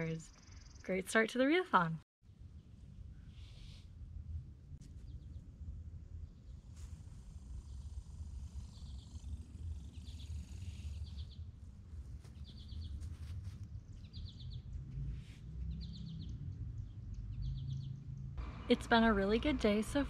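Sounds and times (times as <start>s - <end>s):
low steady rumble: 2.3s - 20.0s.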